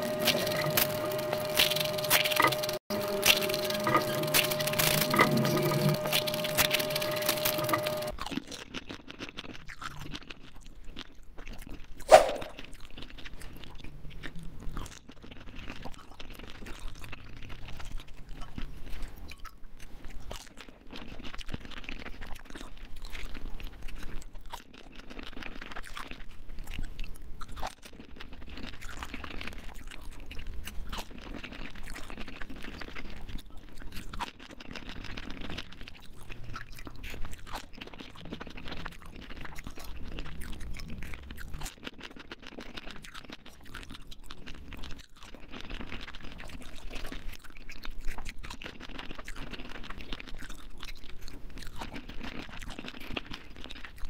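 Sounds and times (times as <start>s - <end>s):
crunching and chewing: 0.0s - 54.0s.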